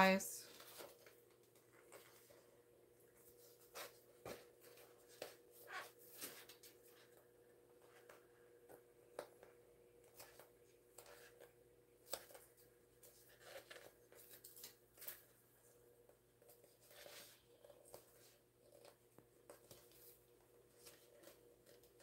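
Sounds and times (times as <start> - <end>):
low steady hum: 0.0 - 22.0
vinyl rustling and crinkling: 0.4 - 22.0.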